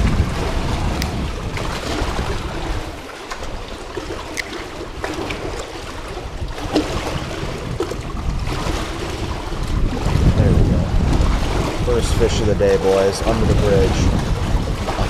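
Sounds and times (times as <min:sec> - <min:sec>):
river current rushing: 0:00.0 - 0:15.0
wind rumbling on microphone: 0:00.0 - 0:15.0.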